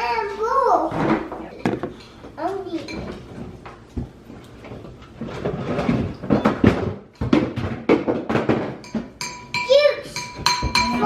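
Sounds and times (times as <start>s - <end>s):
dishes and utensils clinking: 1.0s - 3.6s, 4.6s - 11.0s.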